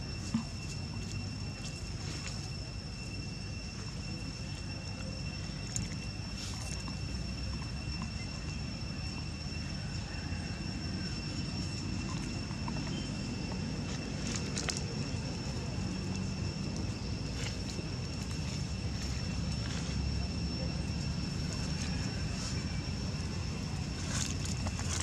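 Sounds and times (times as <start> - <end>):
high-pitched whine: 0.0 - 25.0
steady low rumble: 0.0 - 25.0.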